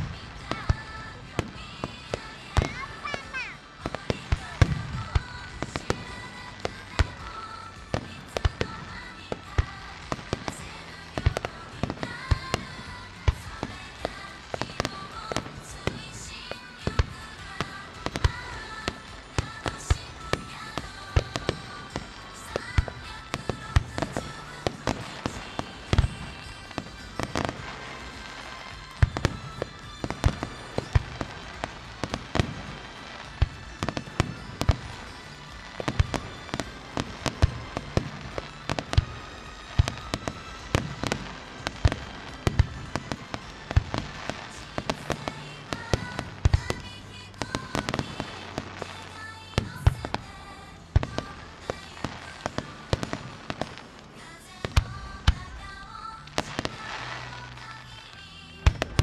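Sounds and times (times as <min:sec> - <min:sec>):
firework shells bursting: 0:00.0 - 0:59.0.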